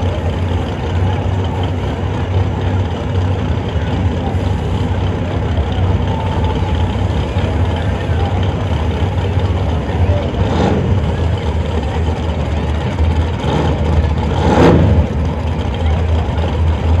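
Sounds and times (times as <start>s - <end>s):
crowd voices: 0.0s - 17.0s
race car engines idling: 0.0s - 17.0s.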